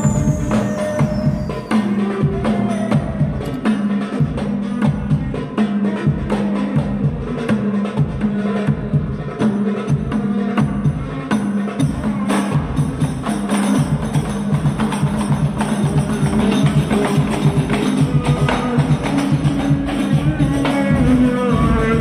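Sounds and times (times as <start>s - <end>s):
person singing: 0.0s - 12.8s, 15.6s - 22.0s
frame drums playing fast rhythm: 0.0s - 22.0s.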